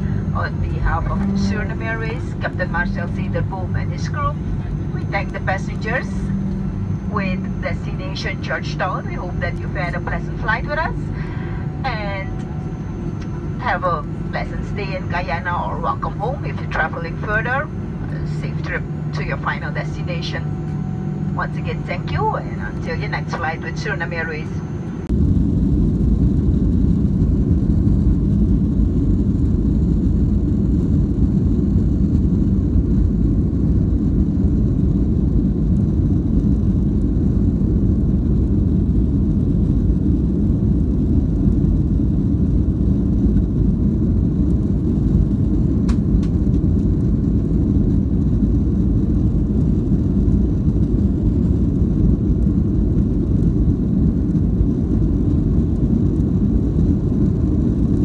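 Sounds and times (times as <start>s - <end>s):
jet cabin engine and wheel rumble: 0.0s - 58.0s.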